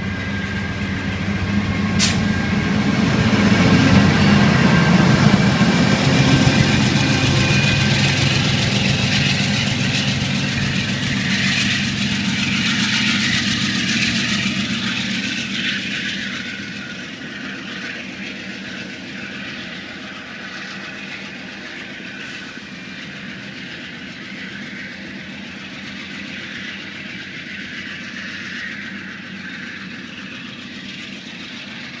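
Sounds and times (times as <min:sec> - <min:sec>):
diesel locomotive engine drone: 0:00.0 - 0:32.0
train cars rolling on rails: 0:00.0 - 0:32.0.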